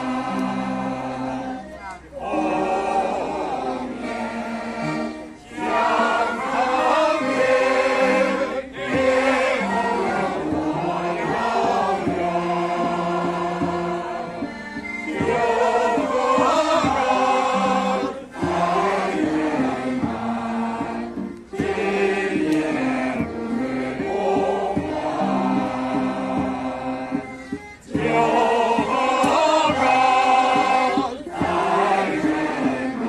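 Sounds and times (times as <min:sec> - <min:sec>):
choir singing in unison: 0:00.0 - 0:33.0.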